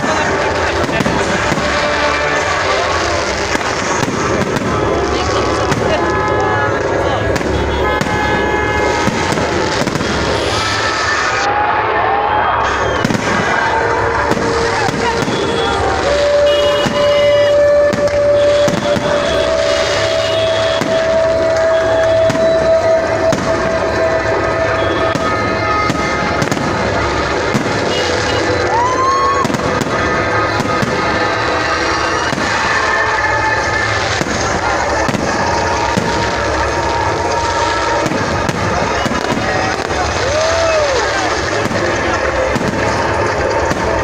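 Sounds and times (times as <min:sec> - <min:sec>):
fireworks bangs and crackles: 0:00.0 - 0:44.0
fireworks whistling: 0:00.0 - 0:44.0.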